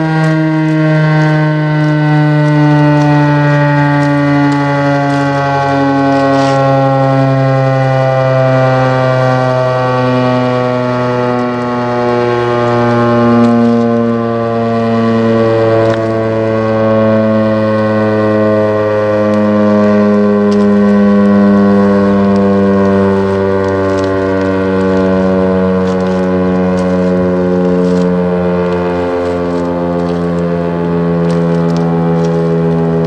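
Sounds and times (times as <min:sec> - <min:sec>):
warning siren winding down: 0:00.0 - 0:33.0.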